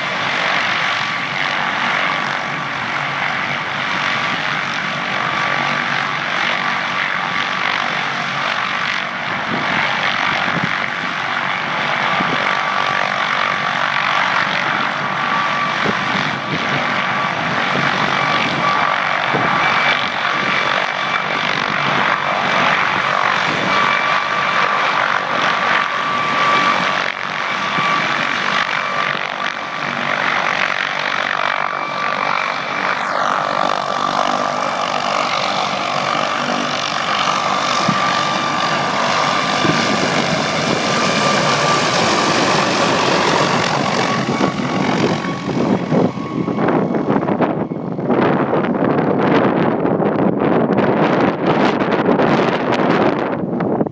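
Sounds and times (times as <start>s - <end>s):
helicopter rotor noise: 0.0s - 53.9s
helicopter turbine whine: 0.0s - 53.9s.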